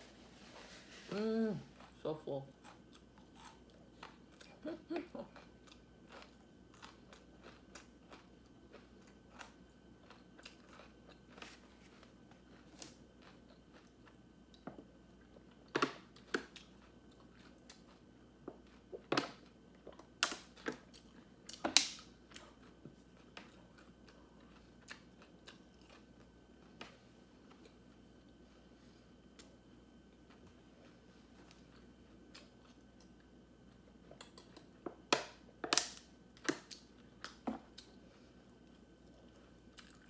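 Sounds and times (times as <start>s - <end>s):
person chewing crunchy food: 1.7s - 28.4s, 31.3s - 40.0s.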